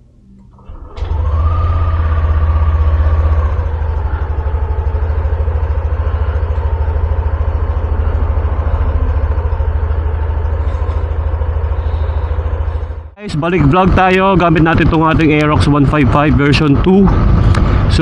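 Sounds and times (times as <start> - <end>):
scooter engine idling: 0.6 - 18.0.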